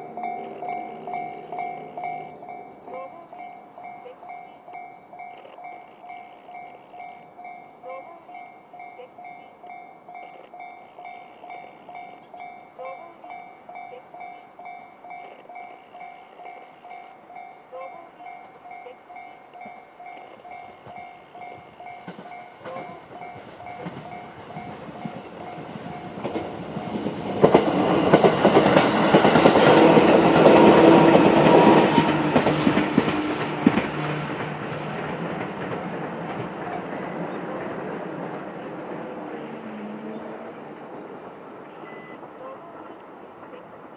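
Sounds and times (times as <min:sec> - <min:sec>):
level crossing warning bell: 0:00.0 - 0:35.4, 0:41.6 - 0:43.9
electric train passing: 0:00.0 - 0:43.9.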